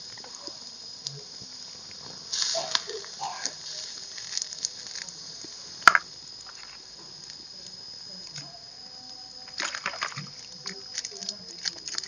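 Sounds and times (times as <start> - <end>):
insect trill: 0.0 - 12.0
pan simmering on a fire: 0.0 - 12.0.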